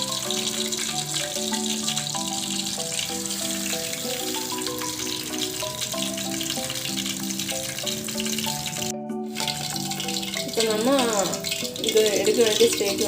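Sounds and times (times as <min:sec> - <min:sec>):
background music with short notes: 0:00.0 - 0:13.0
batter-coated slices deep-frying: 0:00.0 - 0:13.0.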